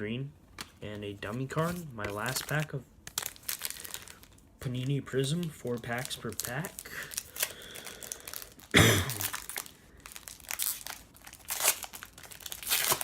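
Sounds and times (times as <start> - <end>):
card pack wrapper crinkling and tearing: 0.6 - 13.0.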